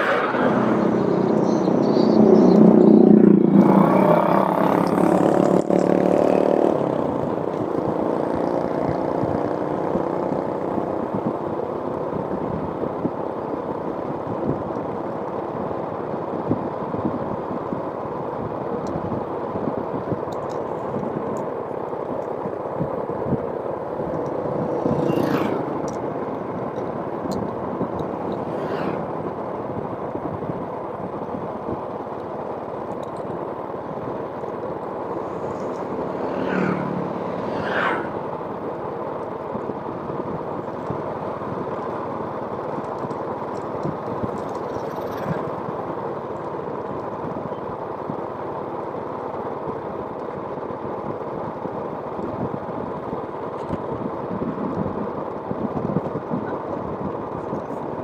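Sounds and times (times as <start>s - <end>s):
road traffic noise: 0.0s - 58.0s
vehicles passing by: 0.0s - 58.0s.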